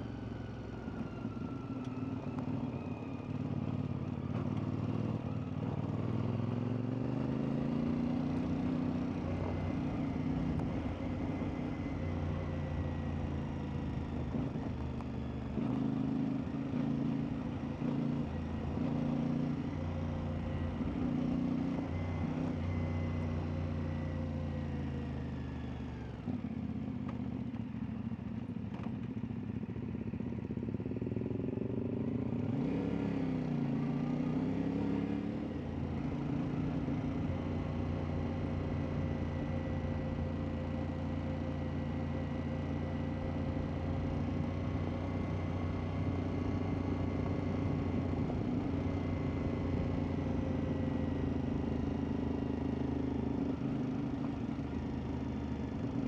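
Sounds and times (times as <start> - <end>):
motorcycle engine revving: 3.4 - 25.7, 30.9 - 56.0.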